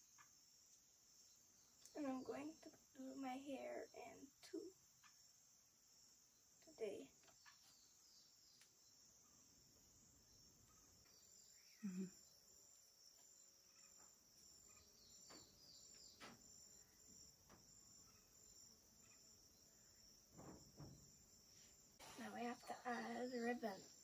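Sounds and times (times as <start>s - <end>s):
insect chirping trill: 0.0s - 24.0s.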